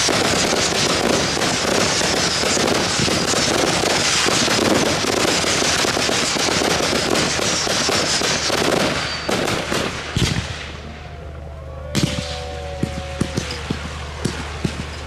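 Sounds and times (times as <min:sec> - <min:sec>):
fireworks bangs: 0:00.0 - 0:15.0
fireworks crackling: 0:00.0 - 0:15.0
fireworks whistling: 0:00.0 - 0:15.0.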